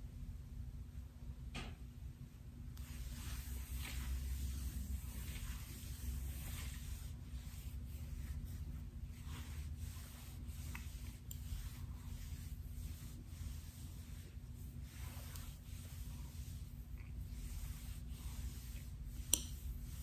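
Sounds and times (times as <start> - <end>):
fingernails scratching hair: 2.8 - 20.0.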